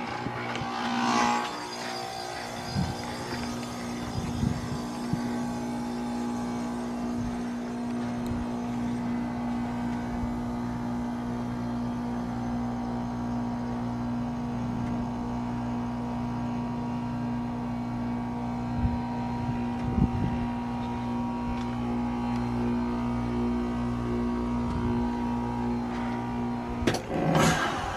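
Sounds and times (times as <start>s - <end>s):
heat pump unit humming: 0.0s - 27.9s.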